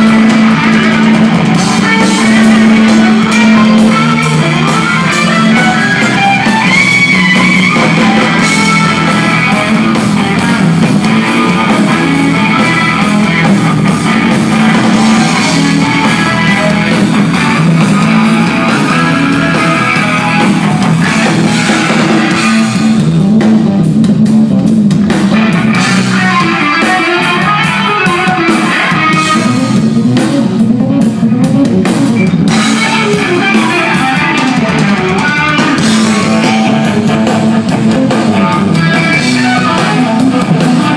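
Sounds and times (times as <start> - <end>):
electric guitar: 0.0 - 40.9
instrumental rock band: 0.0 - 40.9.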